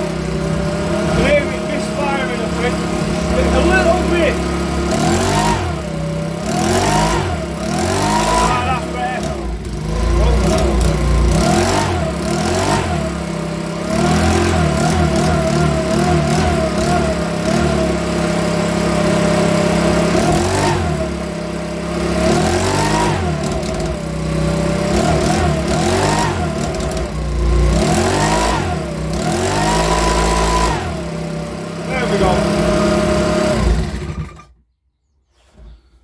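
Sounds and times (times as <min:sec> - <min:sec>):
leaf blower engine revving: 0:00.0 - 0:34.6.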